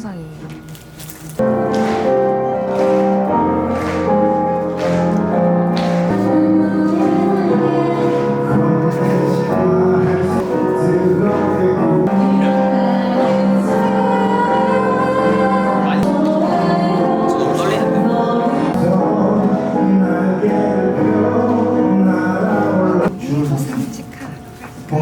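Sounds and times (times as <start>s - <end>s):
sustained chords: 1.4s - 23.1s
person singing: 1.4s - 23.2s.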